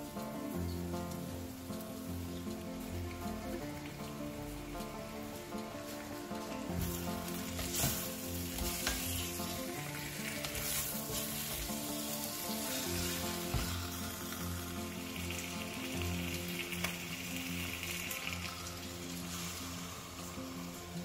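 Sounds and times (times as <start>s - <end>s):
chicken sizzling in a wok: 0.0s - 21.0s.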